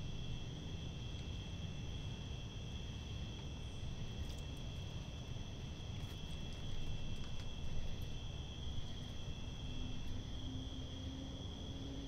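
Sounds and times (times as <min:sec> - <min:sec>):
low background rumble: 0:00.0 - 0:12.0
night insects trilling: 0:00.0 - 0:12.0.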